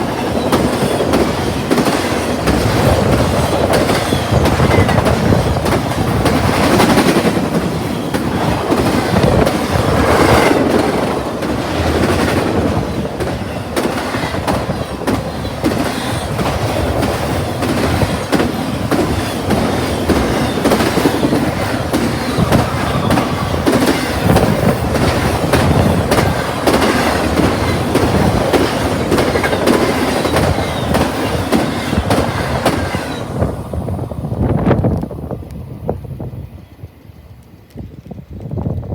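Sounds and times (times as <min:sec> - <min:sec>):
wheels clacking over rail joints: 0:00.0 - 0:33.4
freight train cars rolling past: 0:00.0 - 0:38.9.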